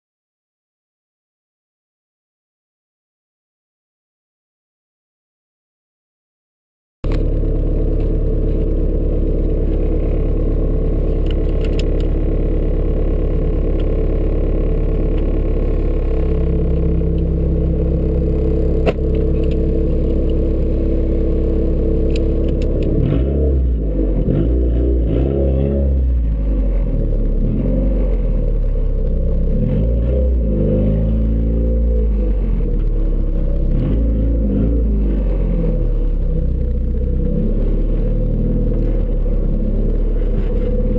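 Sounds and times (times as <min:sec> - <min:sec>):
car engine idling and revving: 0:07.0 - 0:40.9.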